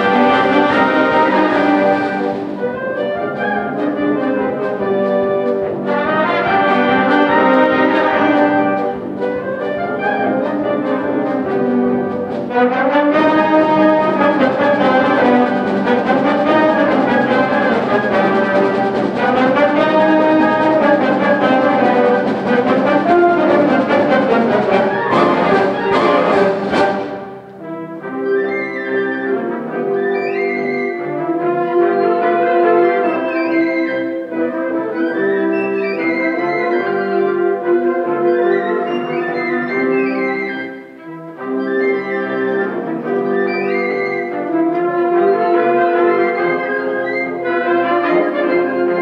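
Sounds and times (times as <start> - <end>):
symphonic band playing: 0.0 - 49.0.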